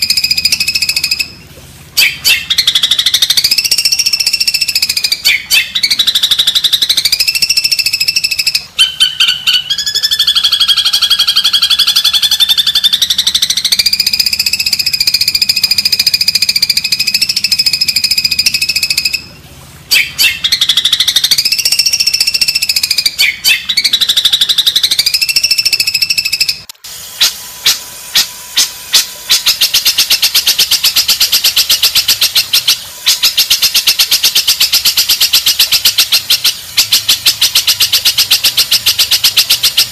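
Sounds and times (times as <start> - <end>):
bird chirps: 0.0 - 1.4, 2.0 - 19.3, 19.9 - 39.9
buzzy rattling bird trills: 0.0 - 1.4, 2.0 - 19.3, 19.9 - 39.9.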